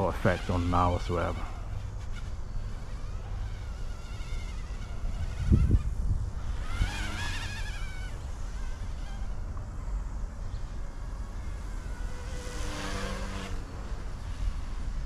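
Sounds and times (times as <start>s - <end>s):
rc helicopter rotor whine: 0.0s - 15.0s
wind noise on microphone: 0.0s - 15.0s.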